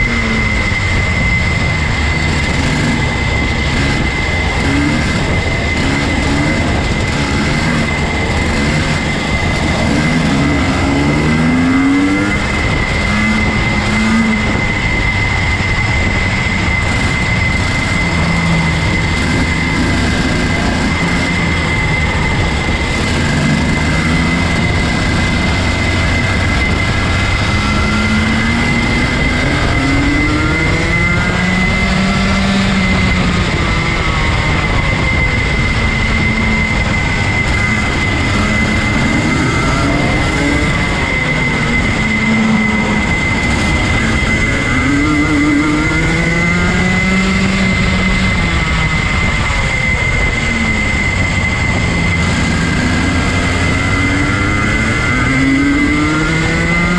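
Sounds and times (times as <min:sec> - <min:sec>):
kart engines revving: 0:00.0 - 0:56.9
rush of wind noise: 0:00.0 - 0:56.9
steady high whine: 0:00.0 - 0:56.9.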